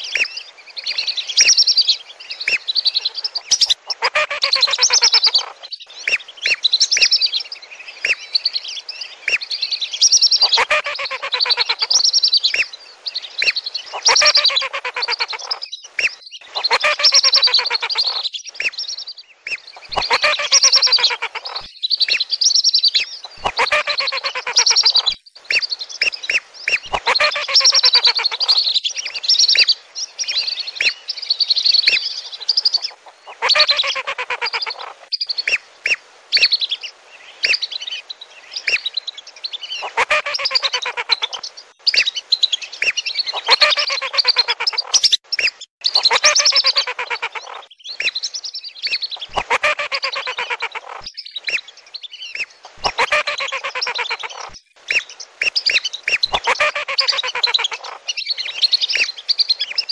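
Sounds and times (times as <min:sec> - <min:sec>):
whistling ducks calling: 0:00.0 - 0:07.3, 0:08.0 - 0:08.5, 0:09.2 - 0:12.7, 0:13.4 - 0:31.0, 0:31.6 - 0:36.5, 0:39.8 - 0:59.9.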